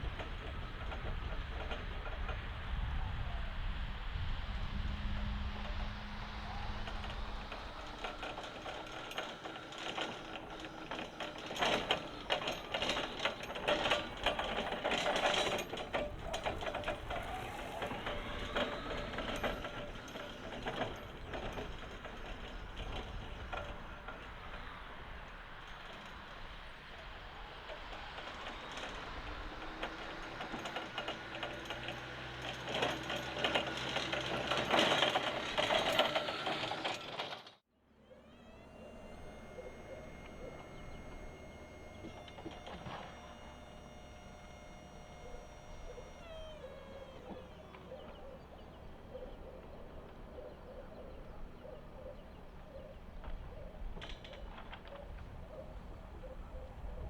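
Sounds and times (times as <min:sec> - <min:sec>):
forklift rattling and clicking: 0:00.0 - 0:03.0, 0:04.4 - 0:57.0
electric motor whine: 0:03.6 - 0:37.2, 0:37.9 - 0:57.0.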